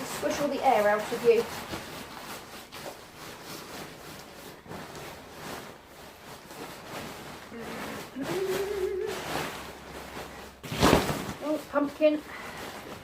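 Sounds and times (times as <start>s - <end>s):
nylon fabric rustling and crumpling: 0.0s - 13.0s.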